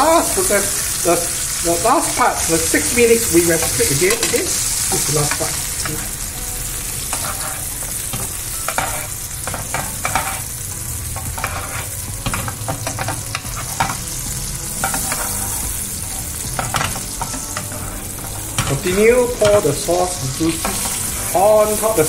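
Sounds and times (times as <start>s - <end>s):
steak sizzling in butter: 0.0s - 22.0s
metal spoon scraping a pan: 2.1s - 6.2s, 6.8s - 21.6s.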